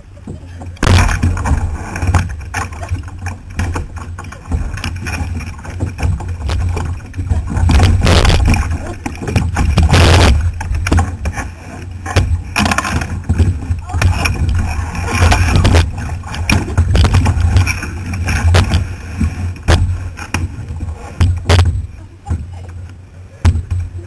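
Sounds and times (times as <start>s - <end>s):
paddle strokes splashing: 0.2s - 24.0s
low rumble: 0.7s - 24.0s
rushing water surges: 0.8s - 22.7s.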